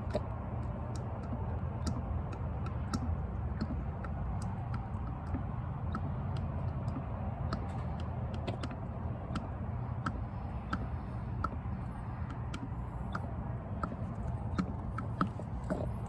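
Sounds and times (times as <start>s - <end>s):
light clicks and ticks: 0.0s - 16.0s
steady low rumble: 0.0s - 16.0s.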